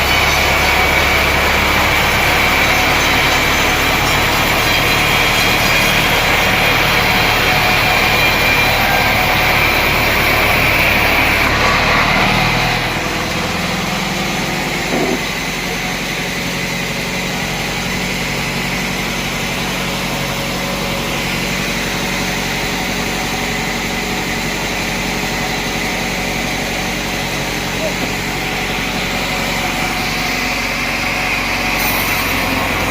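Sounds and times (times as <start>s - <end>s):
sawmill machinery running: 0.0s - 32.9s.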